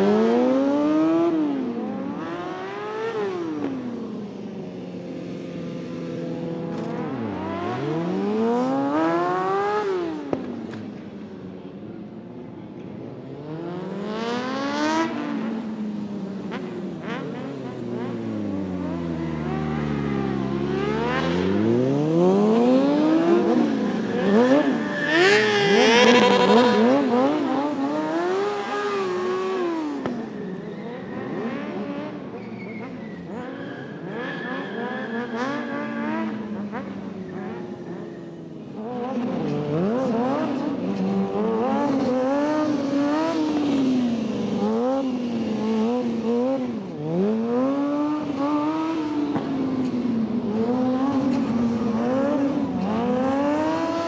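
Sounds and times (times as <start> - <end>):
motorcycle engine revving: 5.2 - 11.1, 13.3 - 54.0.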